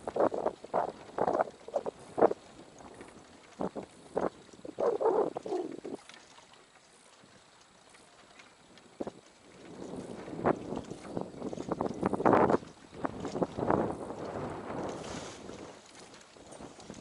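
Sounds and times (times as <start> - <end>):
small waves sloshing against raft: 0.0 - 17.0.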